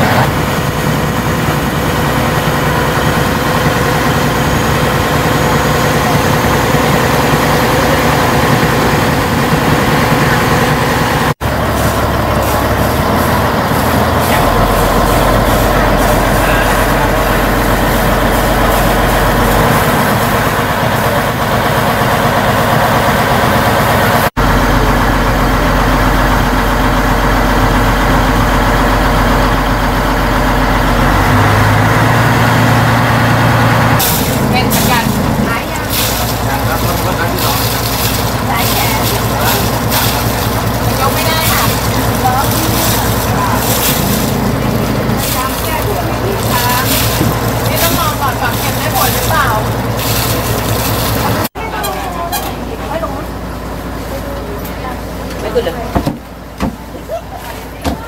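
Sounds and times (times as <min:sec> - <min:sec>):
rushing noise: 0:00.0 - 0:51.6
boat engine running: 0:00.0 - 0:58.0.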